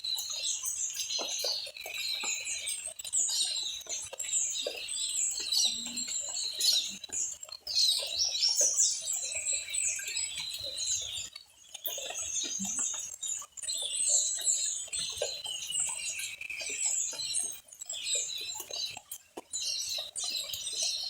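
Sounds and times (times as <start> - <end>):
songbirds chirping and twittering: 0.0 - 21.0.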